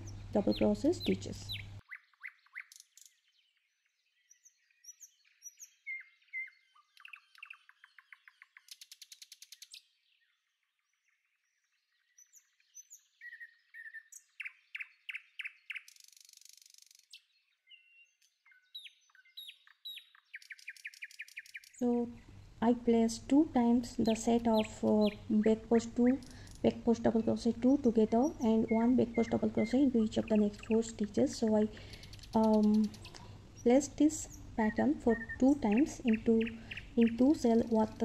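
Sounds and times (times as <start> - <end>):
bird trill: 0.0 - 10.3, 12.0 - 22.5, 23.1 - 38.0
small birds chirping: 0.0 - 38.0.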